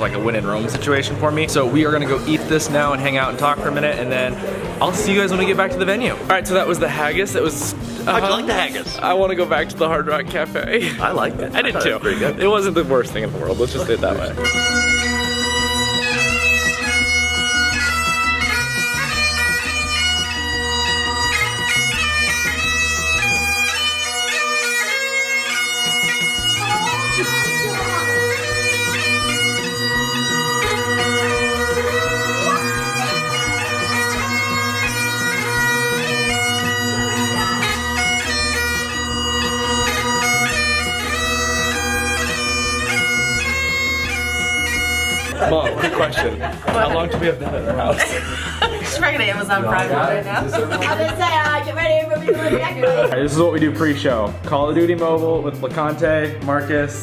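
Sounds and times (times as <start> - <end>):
bagpipe music: 0.0 - 53.2
rhythmic bass line: 0.0 - 57.0.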